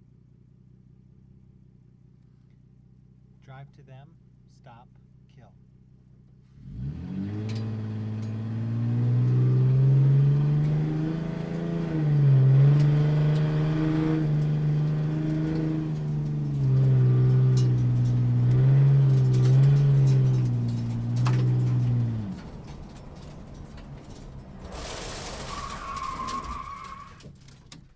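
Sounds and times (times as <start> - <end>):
sports car engine droning: 0.0 - 27.9.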